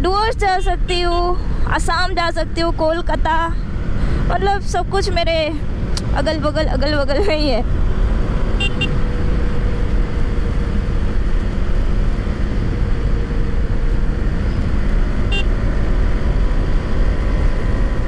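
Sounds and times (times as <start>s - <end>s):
motorcycle engine: 2.4s - 18.0s.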